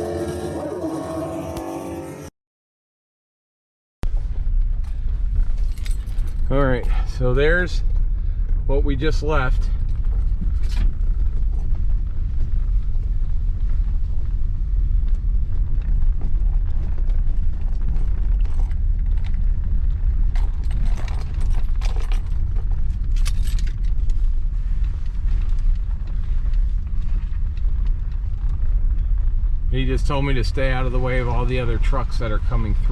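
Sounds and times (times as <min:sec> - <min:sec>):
vehicle rumble from on board: 0:04.0 - 0:32.9
creaks and rattles: 0:04.1 - 0:32.9.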